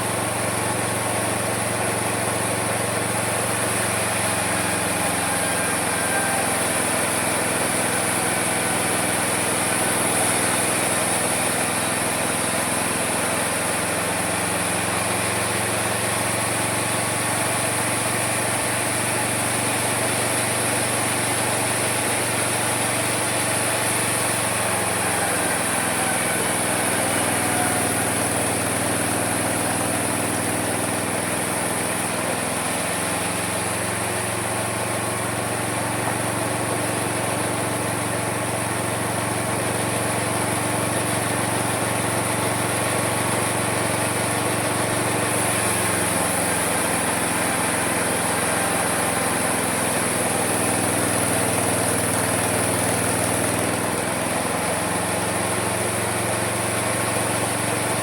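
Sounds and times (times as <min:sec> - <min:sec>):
high hiss of saw: 0:00.0 - 0:58.0
small motor running: 0:00.0 - 0:58.0.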